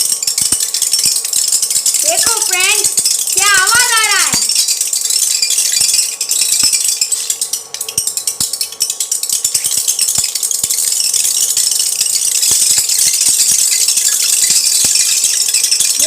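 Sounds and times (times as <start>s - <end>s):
beads rattling against metal: 0.0s - 16.0s
gel beads crackling in hot pan: 0.0s - 16.0s.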